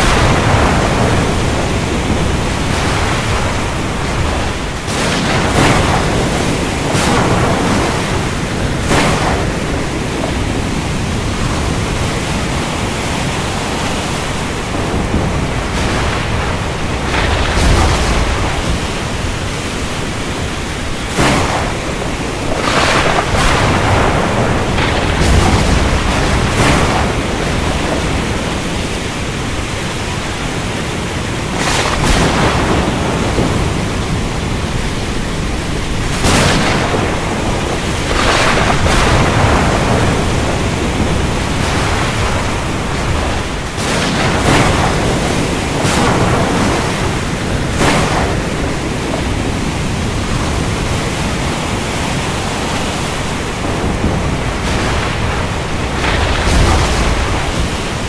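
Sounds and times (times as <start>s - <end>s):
heavy rain roaring: 0.0s - 58.0s
thunder cracks: 0.0s - 58.0s.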